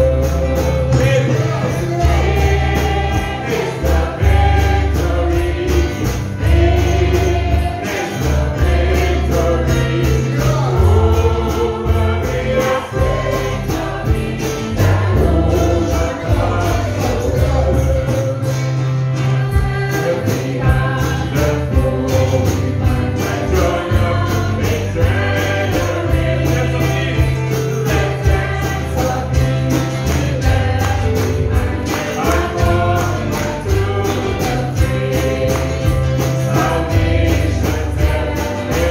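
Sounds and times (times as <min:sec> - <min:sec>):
bass line: 0:00.0 - 0:38.9
gospel group singing with band: 0:00.0 - 0:38.9.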